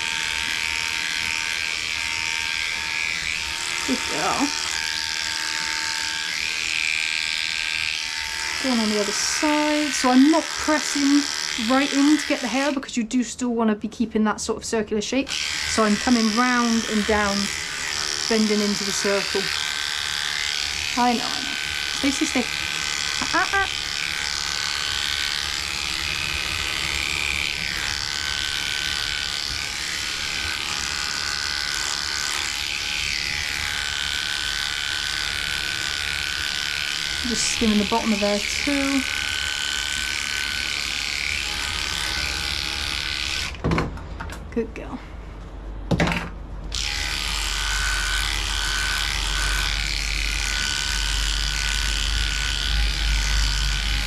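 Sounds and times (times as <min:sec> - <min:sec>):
electric clippers buzzing: 0:00.0 - 0:12.9, 0:15.3 - 0:43.6, 0:46.7 - 0:54.0.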